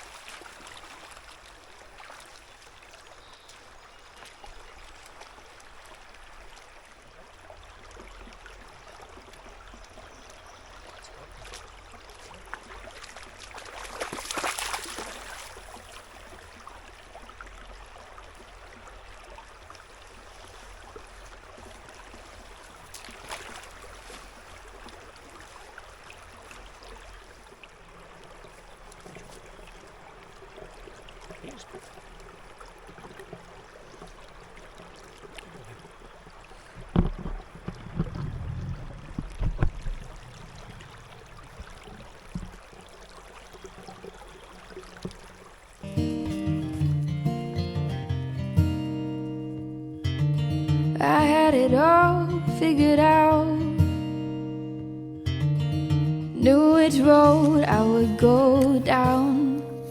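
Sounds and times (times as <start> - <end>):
creek flowing and trickling: 0.0 - 59.9.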